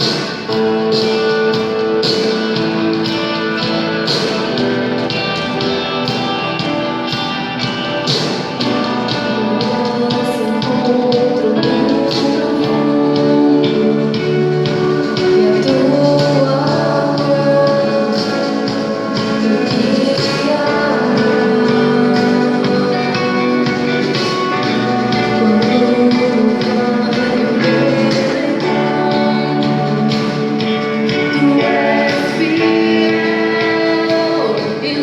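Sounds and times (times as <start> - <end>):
worship band playing and singing: 0.0 - 35.0.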